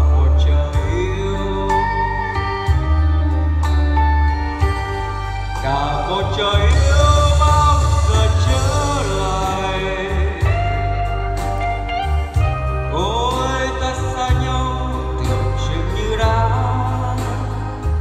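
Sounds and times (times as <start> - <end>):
singing voice: 0.0 - 3.8, 4.6 - 18.0
strong steady bass line: 0.0 - 18.0.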